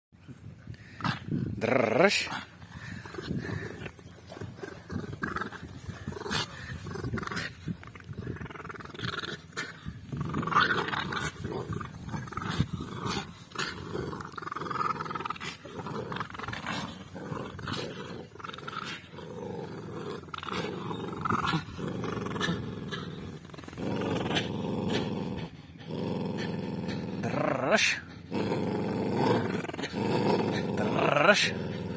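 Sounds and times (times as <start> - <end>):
dogs growling in play: 0.3 - 31.9.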